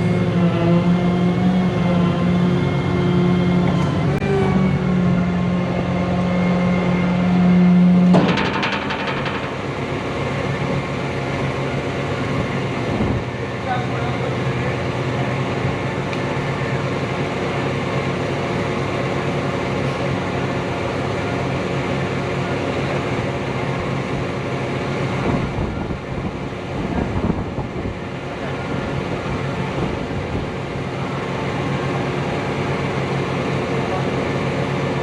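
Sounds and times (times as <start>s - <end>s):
tow truck engine droning: 0.0s - 35.0s.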